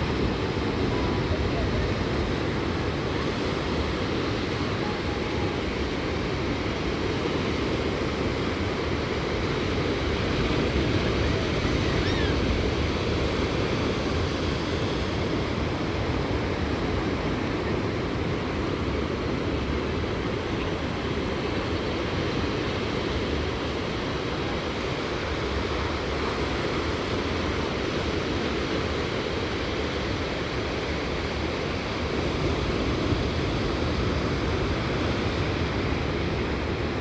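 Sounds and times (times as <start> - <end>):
ocean surf washing: 0.0 - 37.0.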